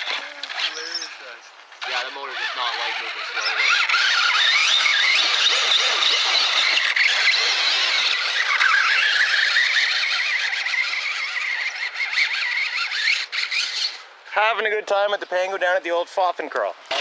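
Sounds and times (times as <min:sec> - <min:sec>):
electric motor whining: 0:00.0 - 0:14.1.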